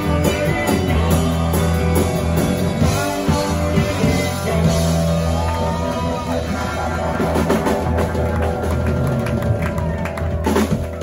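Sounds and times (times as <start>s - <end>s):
drum kit: 0.0s - 11.0s
electric guitar: 0.0s - 11.0s
heavy bass line: 0.0s - 11.0s.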